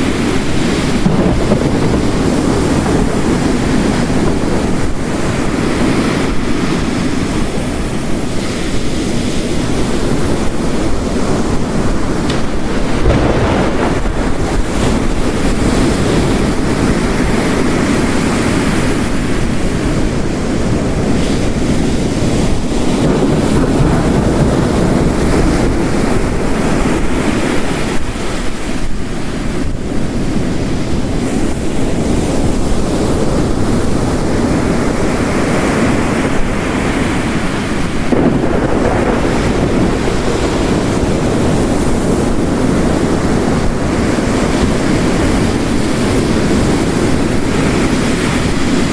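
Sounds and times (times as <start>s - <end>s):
heavy rain: 0.0s - 48.9s
ocean waves crashing on shore: 0.0s - 48.9s.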